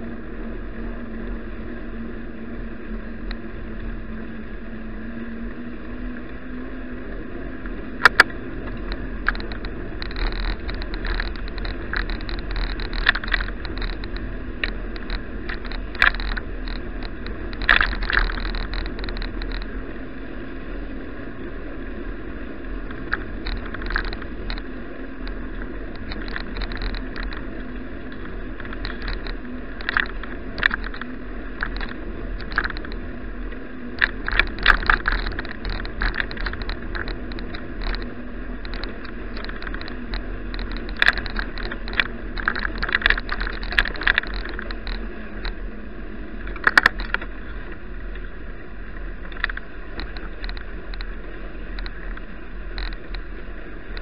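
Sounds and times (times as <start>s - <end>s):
bicycle clicks and rattles: 0.0s - 54.0s
bicycle road noise: 0.0s - 54.0s
wind noise: 0.0s - 54.0s.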